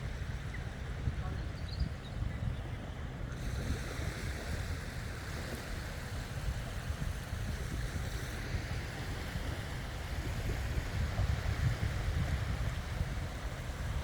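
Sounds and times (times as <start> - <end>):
ocean waves washing ashore: 0.0 - 14.0
wind buffeting microphone: 0.0 - 14.0.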